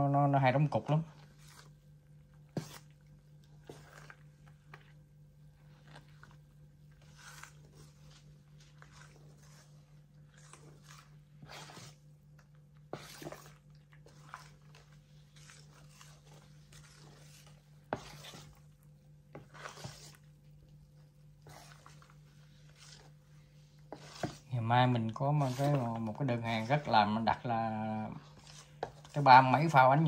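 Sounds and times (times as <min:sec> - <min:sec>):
whisk swishing batter: 0:00.0 - 0:30.0.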